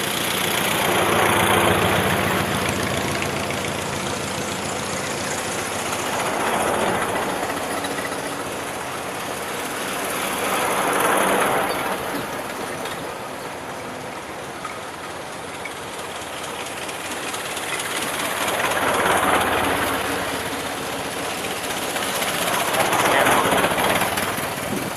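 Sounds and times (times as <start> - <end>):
old cars driving past: 0.0 - 24.9.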